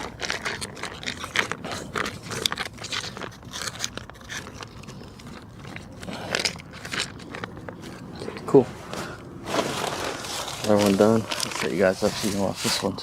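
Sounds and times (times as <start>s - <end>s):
crunching and scraping: 0.0s - 13.0s.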